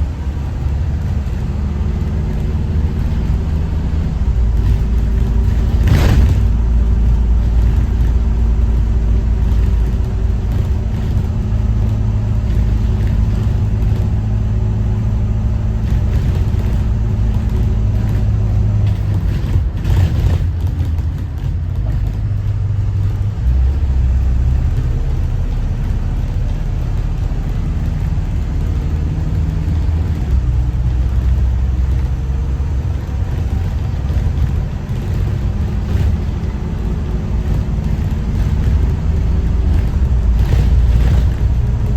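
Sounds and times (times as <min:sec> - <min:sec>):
bus diesel engine droning: 0:00.0 - 0:41.9.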